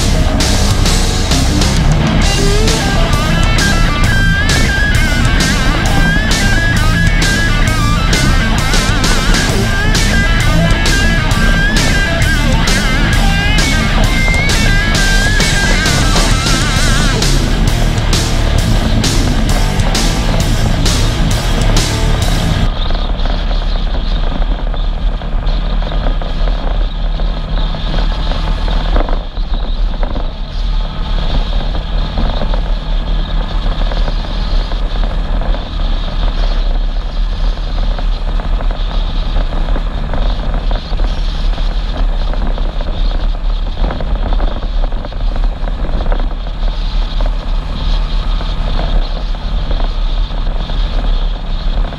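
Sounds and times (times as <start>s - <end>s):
road and wind rumble: 0.0s - 51.9s
utility vehicle engine running: 0.0s - 51.9s.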